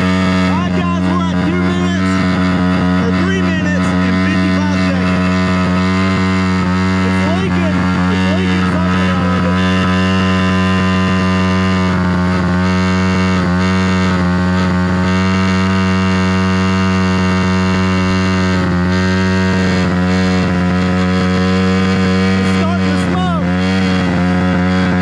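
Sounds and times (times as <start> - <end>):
small engine running at high rpm: 0.0 - 25.0.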